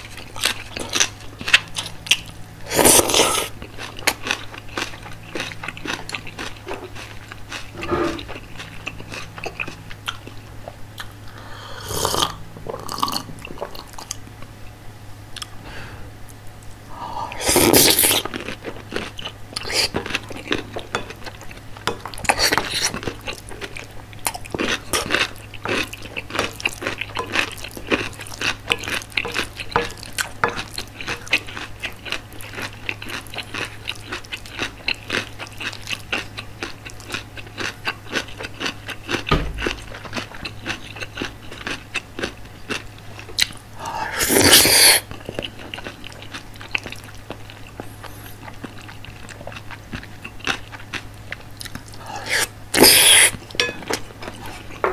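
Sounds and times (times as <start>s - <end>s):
wet chewing: 0.0s - 10.4s, 17.4s - 54.9s.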